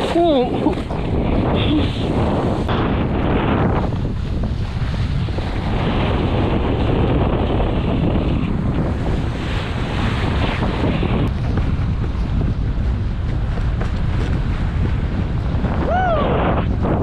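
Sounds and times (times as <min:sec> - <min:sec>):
water and waves rushing: 0:00.0 - 0:17.0
wind buffeting microphone: 0:00.0 - 0:17.0.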